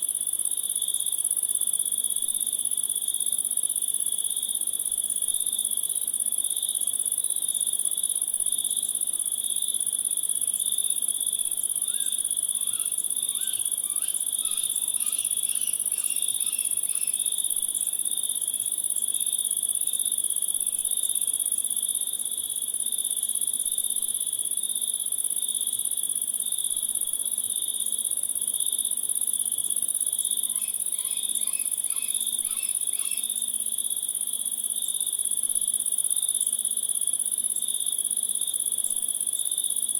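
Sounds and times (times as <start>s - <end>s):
crickets chirping: 6.3s - 39.9s.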